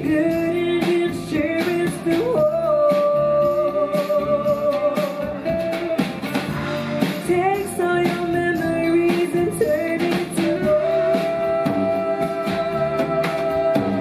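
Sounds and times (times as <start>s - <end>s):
drum kit beat: 0.0s - 14.0s
woman singing: 0.0s - 14.0s.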